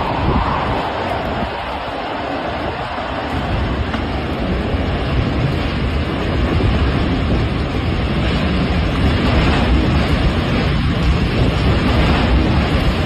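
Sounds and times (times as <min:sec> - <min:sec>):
heavy low rumble: 0:00.0 - 0:13.0
loud rushing noise: 0:00.0 - 0:13.0.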